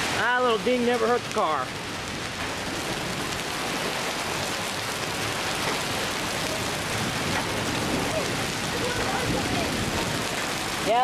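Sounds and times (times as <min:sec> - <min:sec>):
hail and rain falling hard: 0:00.0 - 0:11.0.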